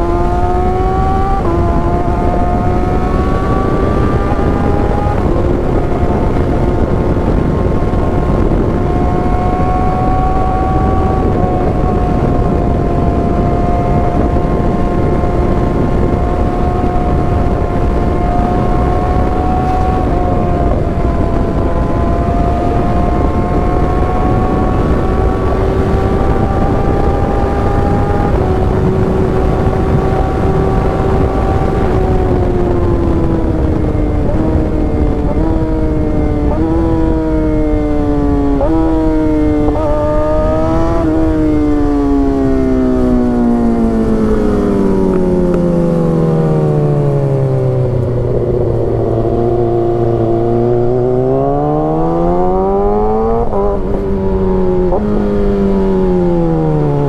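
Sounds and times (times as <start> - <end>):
motorcycle engine running: 0.0 - 57.0
wind rumble: 0.0 - 57.0.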